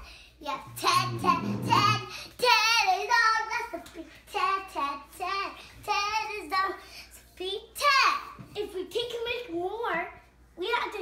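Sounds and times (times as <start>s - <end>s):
young girl singing: 0.0s - 10.1s.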